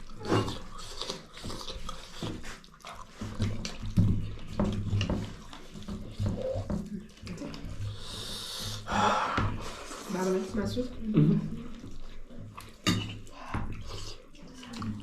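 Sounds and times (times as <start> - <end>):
wet chewing and lip-smacking: 0.0 - 8.9, 11.2 - 15.0.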